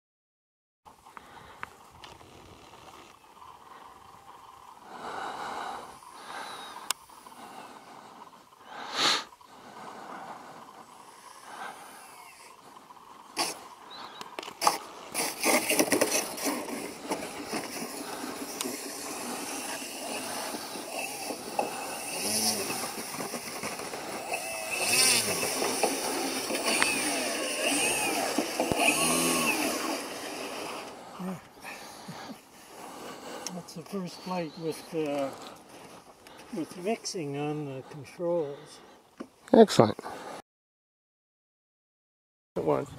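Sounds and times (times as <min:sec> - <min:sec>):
model airplane motor and propeller: 0:00.9 - 0:08.6, 0:09.4 - 0:38.5.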